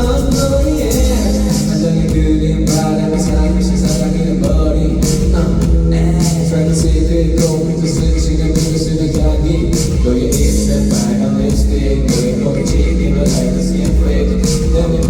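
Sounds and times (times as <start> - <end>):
live pop music: 0.0 - 15.0
man singing: 0.0 - 15.0.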